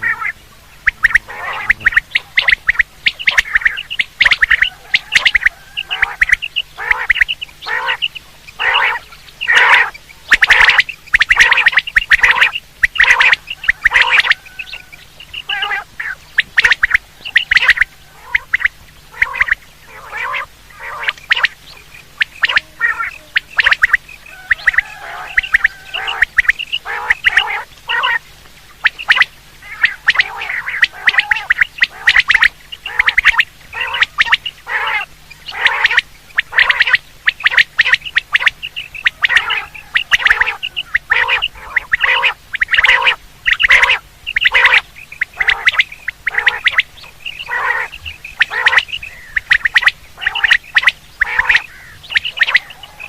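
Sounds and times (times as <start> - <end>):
quail calling in short sharp notes: 0.0 - 53.0.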